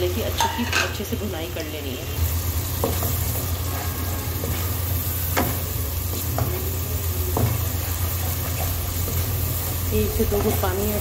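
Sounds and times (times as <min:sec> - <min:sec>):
paste sizzling in oil: 0:00.0 - 0:11.0.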